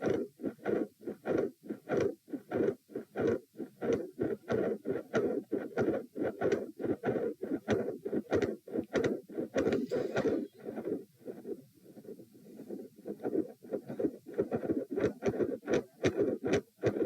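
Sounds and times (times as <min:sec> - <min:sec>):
heart murmur: 0:00.0 - 0:17.0
heartbeat thuds: 0:00.0 - 0:17.0.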